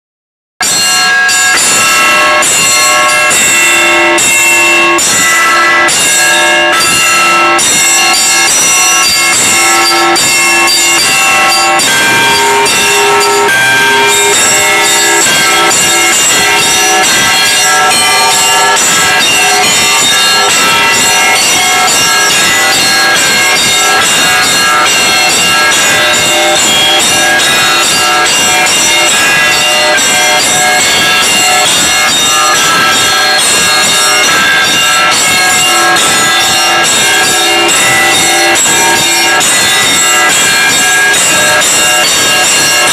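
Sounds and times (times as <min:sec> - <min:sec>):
small treble bells ringing fast: 0:00.6 - 0:42.9
mid-sized bell struck: 0:00.8 - 0:40.5.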